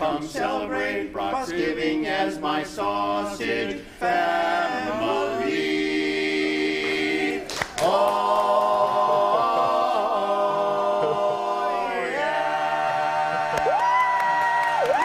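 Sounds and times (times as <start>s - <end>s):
male quartet singing a cappella: 0.0s - 13.5s.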